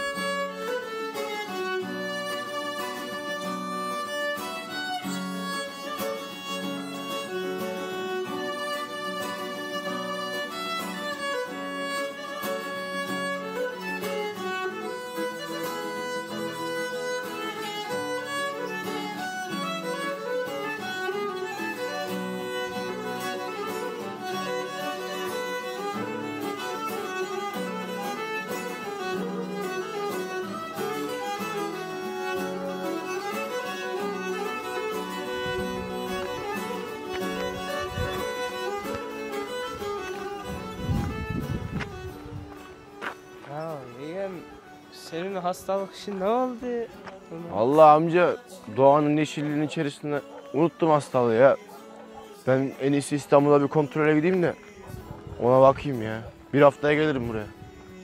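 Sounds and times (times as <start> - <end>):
violin melody with strings: 0.0 - 58.0.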